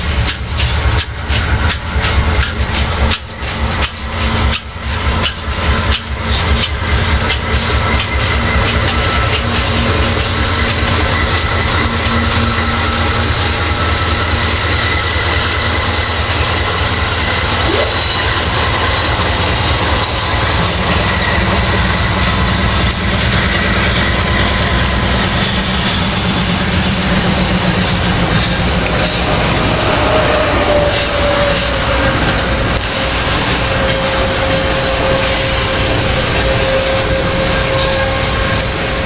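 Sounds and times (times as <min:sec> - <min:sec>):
train wheels clicking over rail joints: 0:00.0 - 0:39.0.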